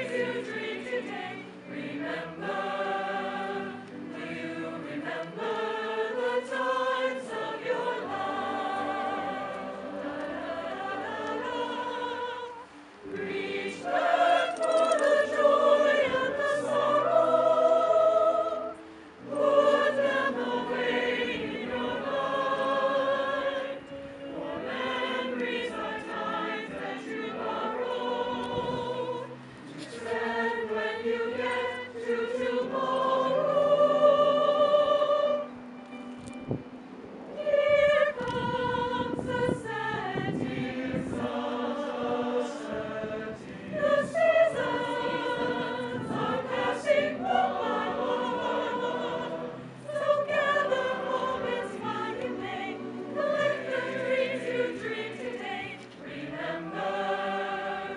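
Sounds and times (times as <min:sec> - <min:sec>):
mixed choir singing: 0:00.0 - 0:35.9, 0:37.2 - 0:57.9.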